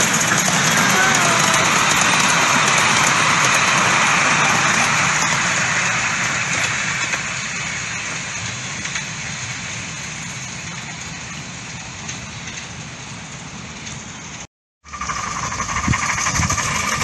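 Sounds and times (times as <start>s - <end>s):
train wheels rattling on rails: 0.0s - 17.0s.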